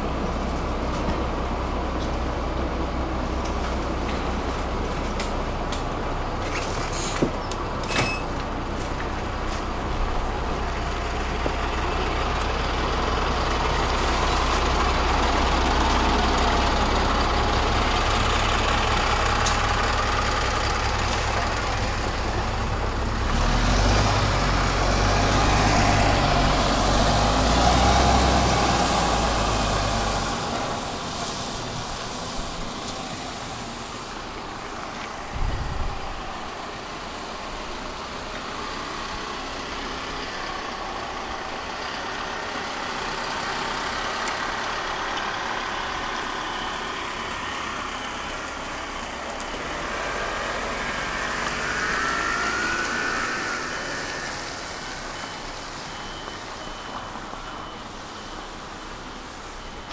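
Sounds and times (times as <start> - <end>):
bus engine rumbling: 0.0 - 59.9
road noise: 0.0 - 59.9.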